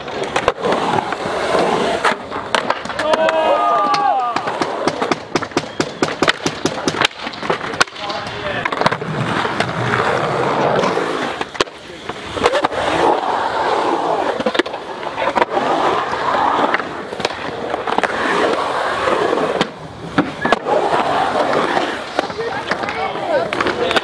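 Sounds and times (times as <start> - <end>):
skateboard clacks: 0.0 - 24.0
skateboard wheels rolling on concrete: 0.0 - 24.0.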